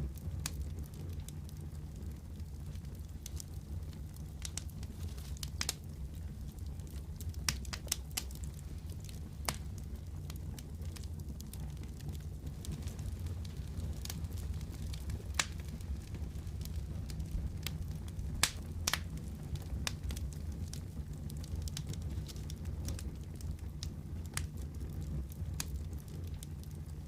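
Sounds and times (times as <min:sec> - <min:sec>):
fire crackling and popping: 0:00.0 - 0:27.0
fire rumbling in fireplace: 0:00.0 - 0:27.0.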